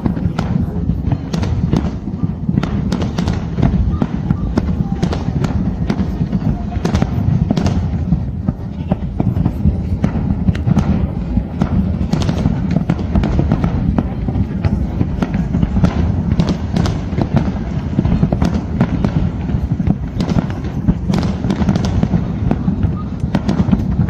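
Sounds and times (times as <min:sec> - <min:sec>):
fireworks bangs and cracks: 0:00.0 - 0:24.0
low rumble: 0:00.0 - 0:24.0.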